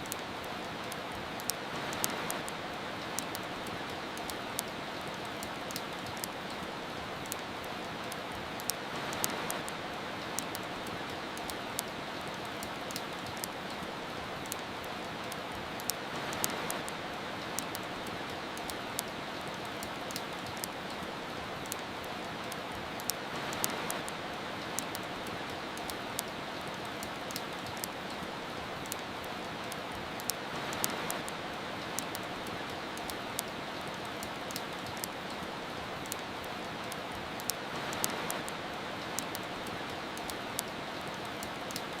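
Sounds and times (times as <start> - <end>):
rain hiss: 0.0 - 42.0
wood fire crackling: 0.0 - 42.0.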